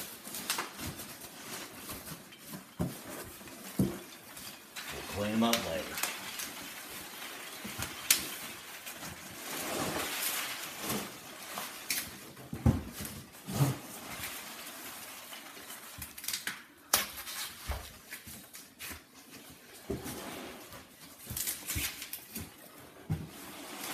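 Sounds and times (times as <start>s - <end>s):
bubble wrap crinkling: 0.0s - 23.9s
packing peanuts rustling: 0.0s - 23.9s.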